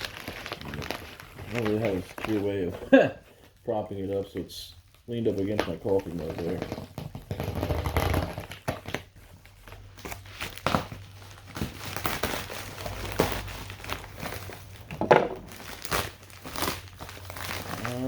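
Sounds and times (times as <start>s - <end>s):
packaging crinkling and rustling: 0.0s - 18.0s
sharp packaging crackle: 0.0s - 18.0s.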